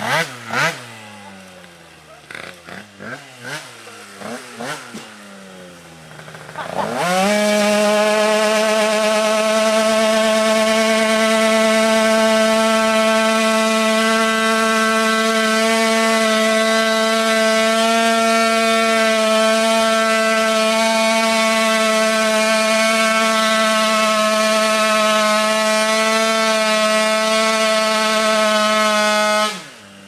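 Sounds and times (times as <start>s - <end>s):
scooter engine revving high: 0.0s - 30.0s.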